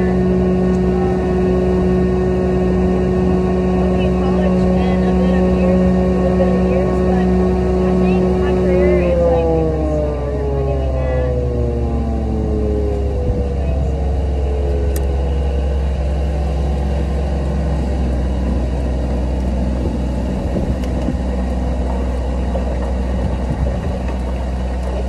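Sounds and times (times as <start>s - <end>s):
golf cart rumbling: 0.0s - 25.0s.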